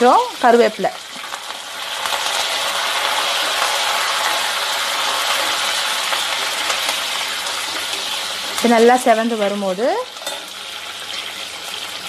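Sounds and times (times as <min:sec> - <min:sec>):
shallots sizzling in hot oil: 0:00.0 - 0:12.0.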